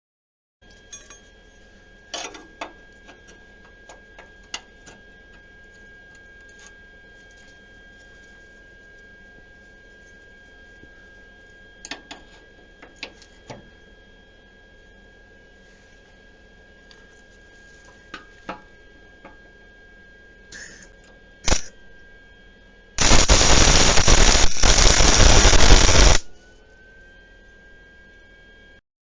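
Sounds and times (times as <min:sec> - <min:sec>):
faint high-pitched electrical whine: 0:00.6 - 0:28.8.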